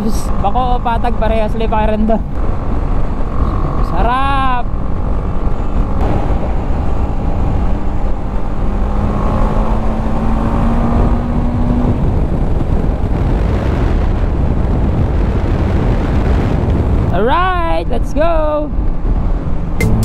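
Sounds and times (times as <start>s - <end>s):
wind rushing over microphone: 0.0s - 19.8s.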